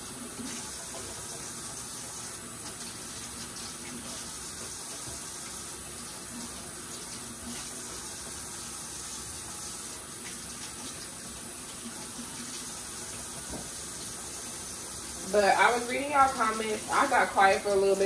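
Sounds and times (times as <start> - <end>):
faucet running into sink: 0.0 - 18.0.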